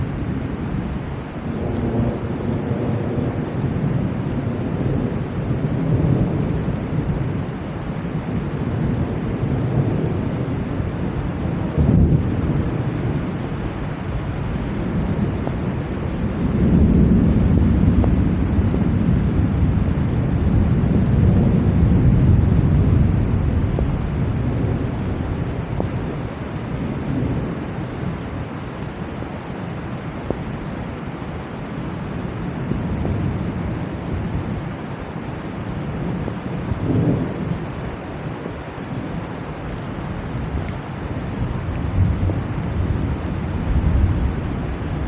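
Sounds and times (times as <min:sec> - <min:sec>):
heavy rain pouring: 0:00.0 - 0:45.0
thunder rumbling: 0:00.0 - 0:45.0.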